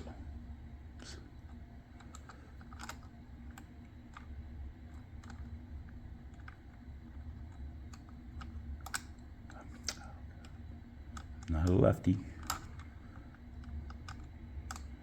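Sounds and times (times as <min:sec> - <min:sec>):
faint low hum: 0:00.0 - 0:15.0
small machine parts clicking: 0:02.0 - 0:05.6, 0:06.3 - 0:15.0.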